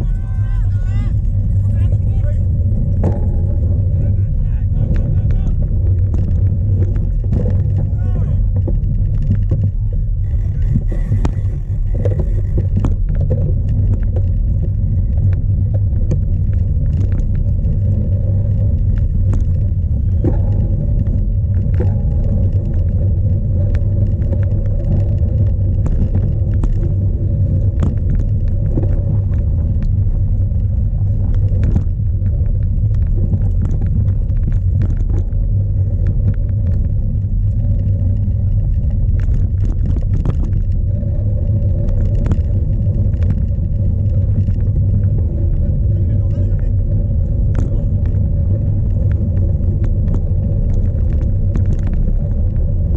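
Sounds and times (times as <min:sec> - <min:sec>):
bike clicks and rattles: 0:00.0 - 0:52.9
wind buffeting microphone: 0:00.0 - 0:52.9.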